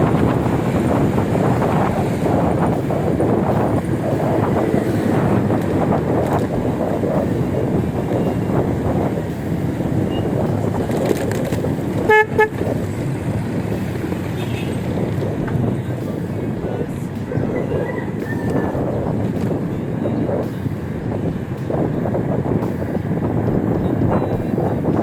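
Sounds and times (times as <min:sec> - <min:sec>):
horn toots: 0:00.0 - 0:25.0
traffic noise: 0:00.0 - 0:25.0
wind noise: 0:00.0 - 0:25.0.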